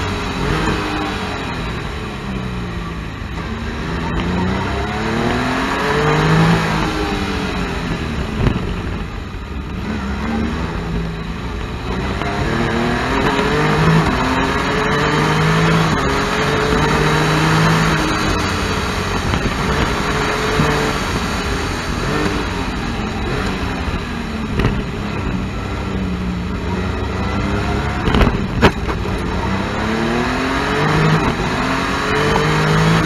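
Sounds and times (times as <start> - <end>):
engine accelerating hard: 0.0 - 33.0
wind rushing over microphone: 3.4 - 33.0.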